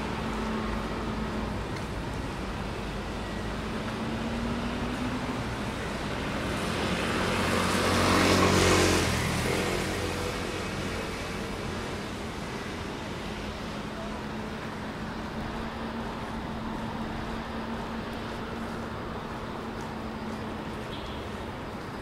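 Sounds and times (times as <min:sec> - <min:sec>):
car passing on wet road: 0:00.0 - 0:22.0
traffic hum: 0:00.0 - 0:22.0.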